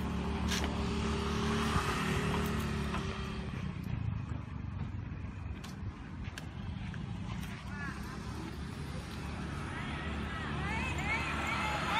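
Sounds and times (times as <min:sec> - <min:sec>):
motor vehicle humming: 0:00.0 - 0:11.9
outdoor traffic noise: 0:00.0 - 0:11.9.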